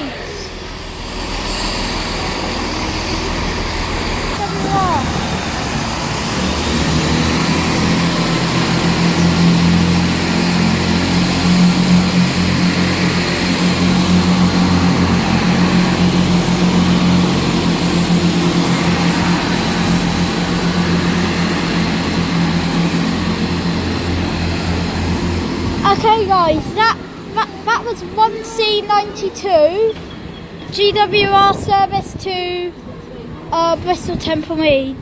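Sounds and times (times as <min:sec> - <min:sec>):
train diesel engine drone: 0:00.0 - 0:35.0.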